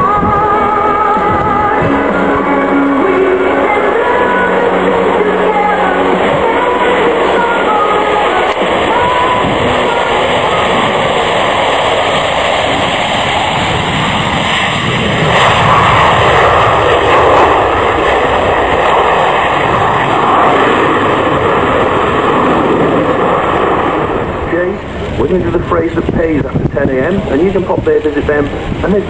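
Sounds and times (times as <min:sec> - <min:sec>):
aircraft engine flying past: 0:00.0 - 0:29.0.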